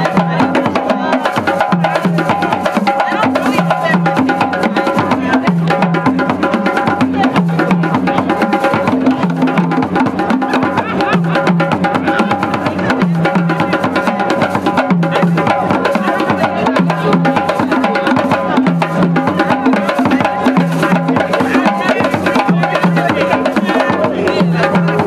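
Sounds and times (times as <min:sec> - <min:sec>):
drum beaten with wooden stick: 0:00.0 - 0:25.0
hand drums rhythm: 0:00.0 - 0:25.0.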